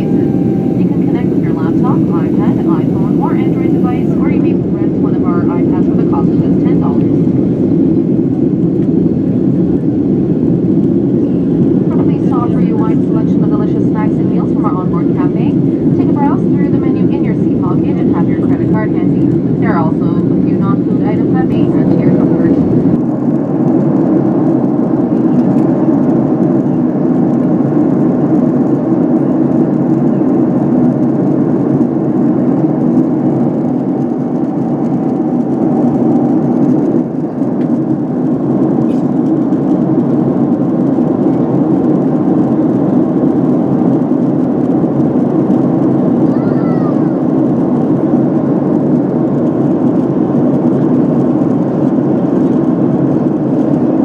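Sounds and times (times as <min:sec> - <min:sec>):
jet cabin engine drone: 0:00.0 - 0:54.0.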